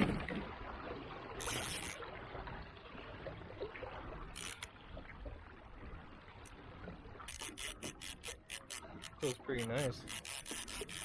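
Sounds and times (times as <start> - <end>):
paddle splashing in water: 0.0 - 11.0
water lapping around hull: 0.0 - 11.0.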